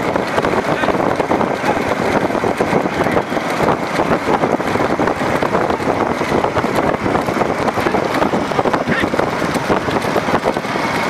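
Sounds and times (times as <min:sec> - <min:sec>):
road noise of vehicles: 0:00.0 - 0:11.0
wind buffeting microphone: 0:00.0 - 0:11.0.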